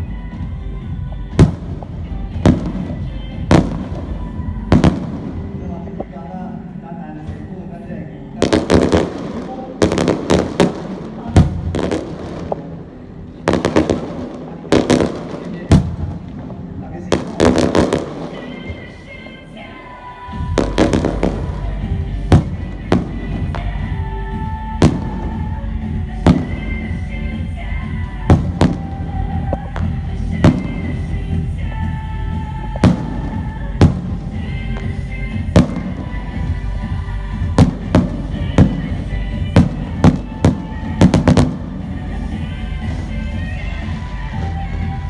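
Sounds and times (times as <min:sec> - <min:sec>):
festive background music: 0:00.0 - 0:45.0.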